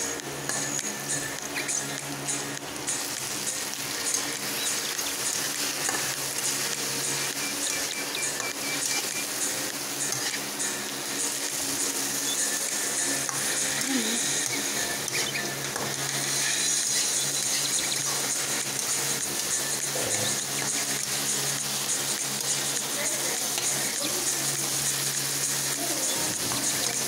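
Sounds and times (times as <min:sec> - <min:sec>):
onions sizzling in a pan: 0:00.0 - 0:27.0.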